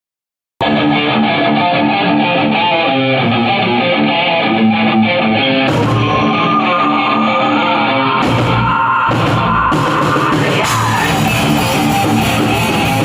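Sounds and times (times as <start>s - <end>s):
band playing rock music: 0.6s - 13.0s
electric guitar: 0.6s - 13.0s.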